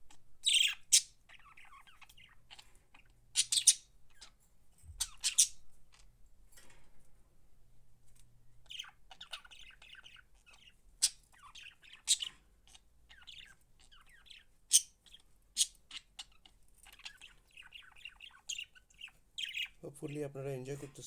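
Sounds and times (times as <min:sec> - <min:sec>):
budgerigars chattering and warbling: 0:00.4 - 0:04.4, 0:05.0 - 0:05.6, 0:08.7 - 0:21.0.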